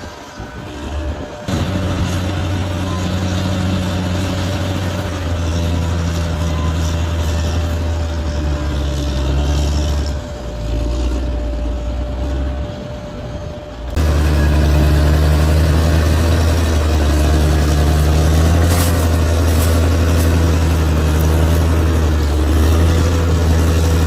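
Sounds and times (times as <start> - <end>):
bulldozer diesel engine under load: 0.0 - 24.0
thin steady whine: 0.0 - 24.0.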